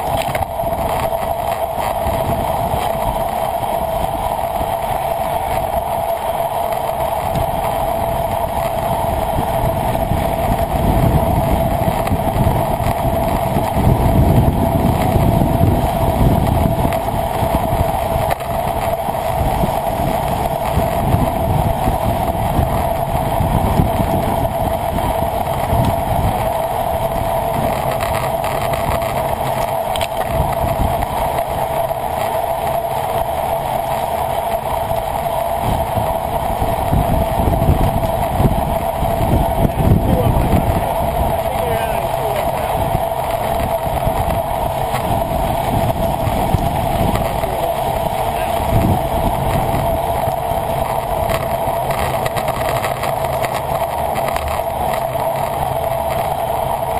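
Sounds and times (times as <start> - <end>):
steady hum: 0.0 - 56.9
wind buffeting microphone: 0.0 - 56.9.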